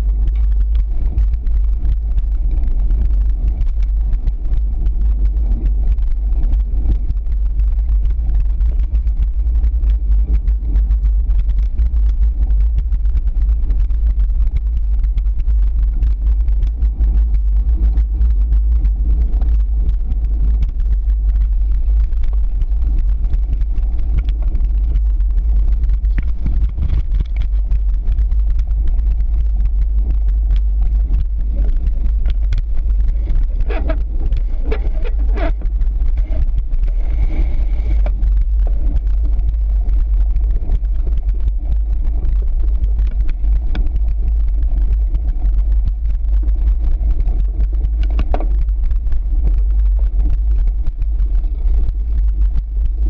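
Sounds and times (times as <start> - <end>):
low ground rumble: 0.0 - 53.0
wind buffeting microphone: 0.0 - 53.0.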